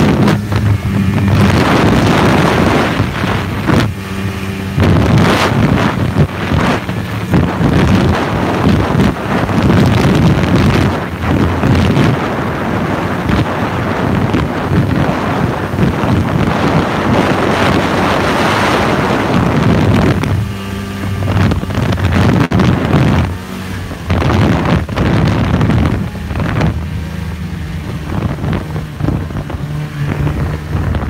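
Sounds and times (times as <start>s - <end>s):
snowmobile engine running: 0.0s - 31.0s
wind on microphone: 0.0s - 31.0s.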